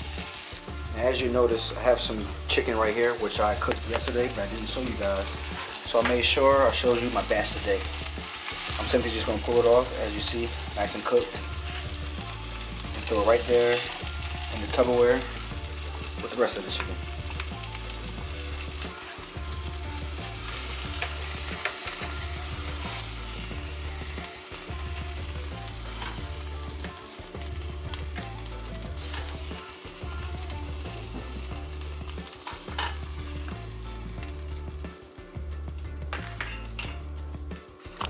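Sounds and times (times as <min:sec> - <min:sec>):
chicken sizzling in a skillet: 0:00.0 - 0:38.0.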